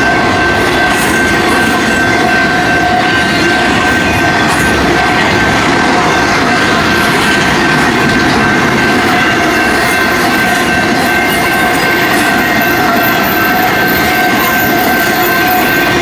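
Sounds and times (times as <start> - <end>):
high-pitched ringing: 0.0 - 16.0
train wheels rushing on rail: 0.0 - 16.0.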